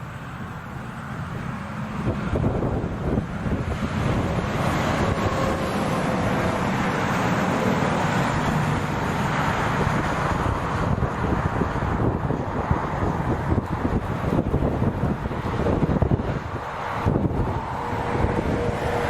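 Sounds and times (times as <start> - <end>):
heavy truck driving past: 0.0 - 19.0
wind buffeting microphone: 0.0 - 19.0.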